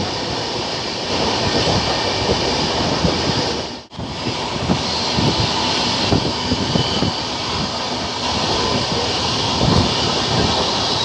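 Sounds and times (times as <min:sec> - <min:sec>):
wind rushing past train: 0:00.0 - 0:11.0.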